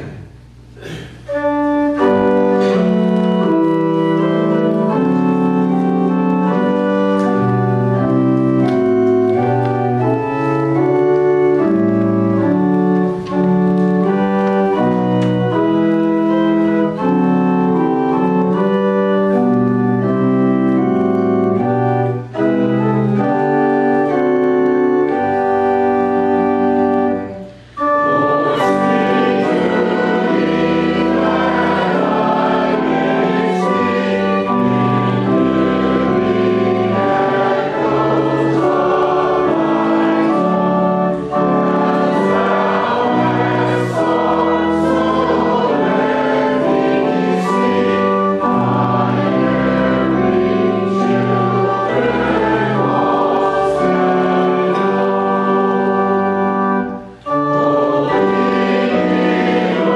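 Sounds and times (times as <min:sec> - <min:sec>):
congregation singing a hymn: 0:00.0 - 0:00.2, 0:00.8 - 0:59.9
church organ chords: 0:00.0 - 0:59.9.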